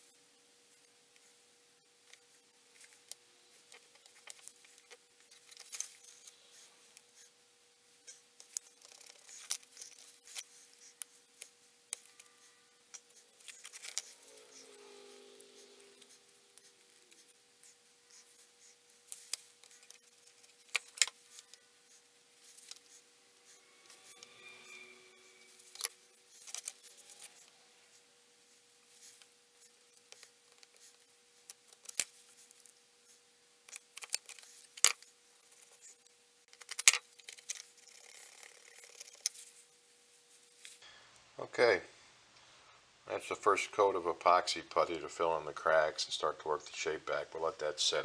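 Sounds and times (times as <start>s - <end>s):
faint hum: 0.0s - 48.0s.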